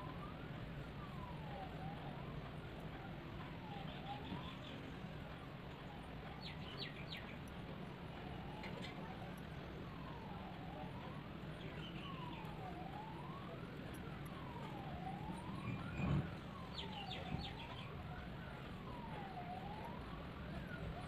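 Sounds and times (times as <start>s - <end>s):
siren wailing: 0.0s - 21.0s.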